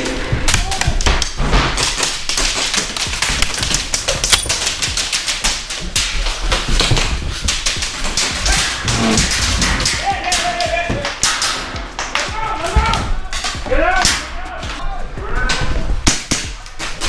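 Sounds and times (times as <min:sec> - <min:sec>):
airsoft guns firing rapidly: 0:00.0 - 0:14.8.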